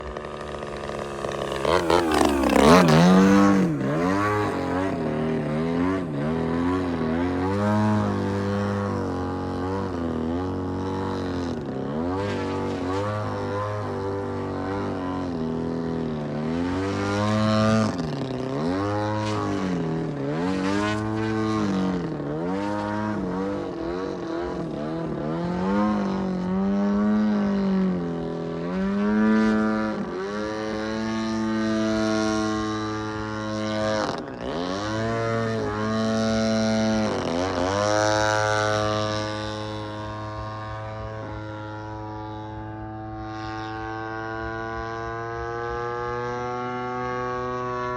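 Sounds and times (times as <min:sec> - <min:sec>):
model plane engine and propeller: 0:00.0 - 0:47.9.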